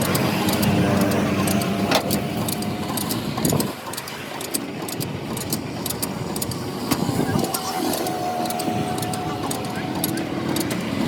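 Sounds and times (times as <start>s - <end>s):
engine running: 0.0s - 11.0s
sharp clicks: 0.0s - 11.0s.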